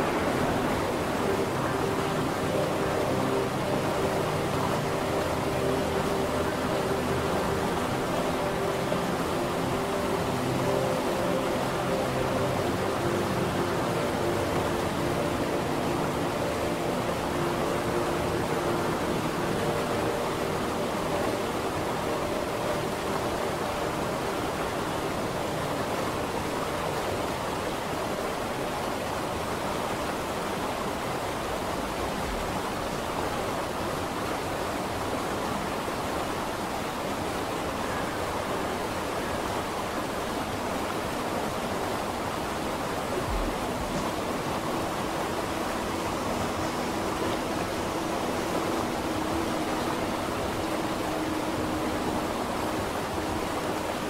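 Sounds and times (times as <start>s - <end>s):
faint steady tones: 0.0s - 54.0s
steady rushing noise: 0.0s - 54.0s.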